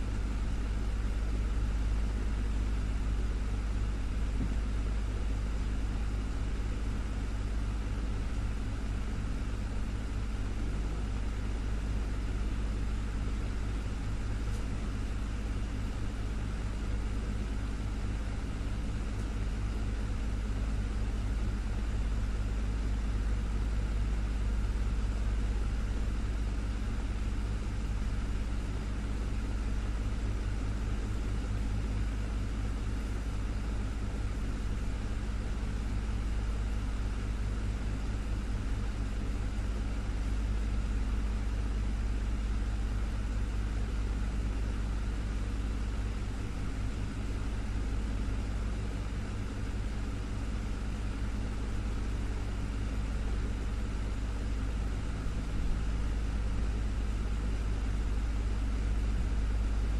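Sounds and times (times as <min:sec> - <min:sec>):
desktop fan humming: 0:00.0 - 0:59.9.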